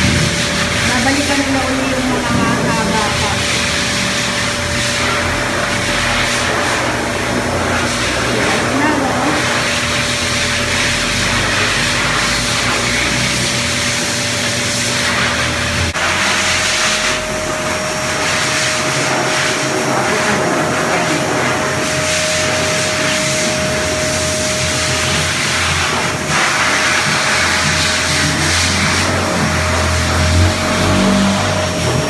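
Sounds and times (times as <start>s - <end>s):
blow dryer rushing air: 0.0s - 32.0s.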